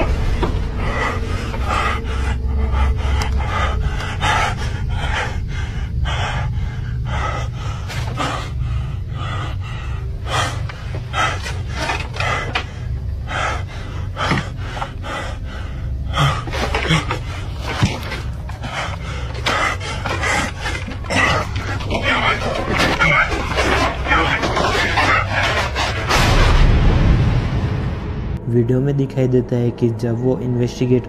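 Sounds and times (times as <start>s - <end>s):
man breathing hard and fast: 0.0s - 26.5s
low steady hum: 0.0s - 31.0s.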